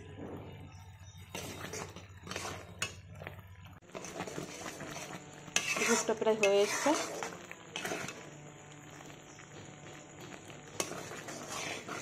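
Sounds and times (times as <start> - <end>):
metal spoon stirring: 0.7 - 9.4, 10.2 - 12.0.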